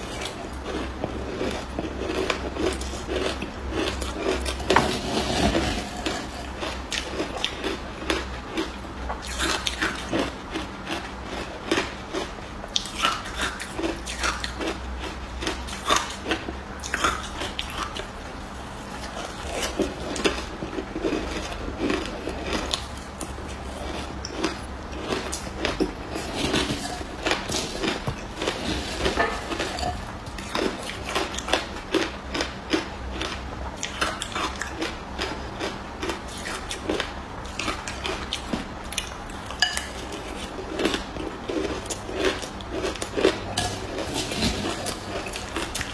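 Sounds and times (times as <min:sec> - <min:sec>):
person chewing ice: 0:00.0 - 0:45.9.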